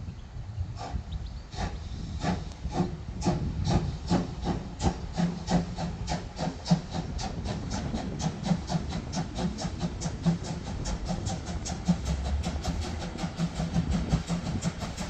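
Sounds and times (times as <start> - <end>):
steam locomotive chuffing: 0.8 - 15.0.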